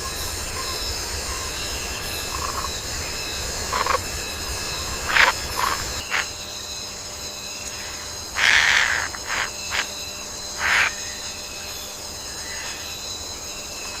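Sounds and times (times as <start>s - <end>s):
insect chorus trilling: 0.0s - 14.0s.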